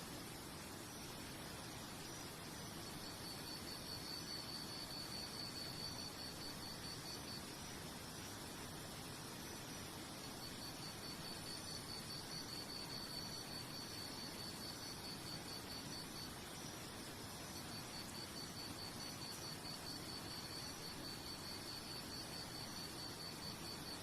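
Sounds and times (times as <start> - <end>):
background hiss: 0.0 - 24.0
cricket chirping: 0.1 - 24.0.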